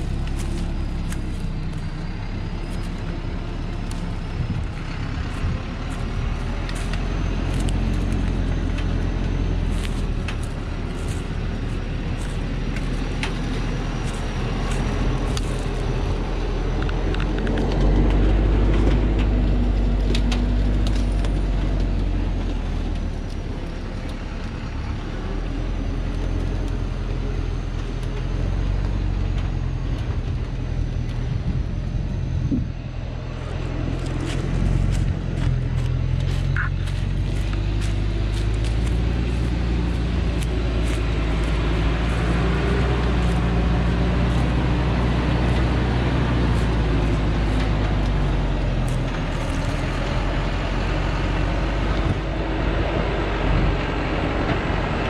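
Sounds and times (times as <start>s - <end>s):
diesel truck engine under load: 0.0s - 55.0s.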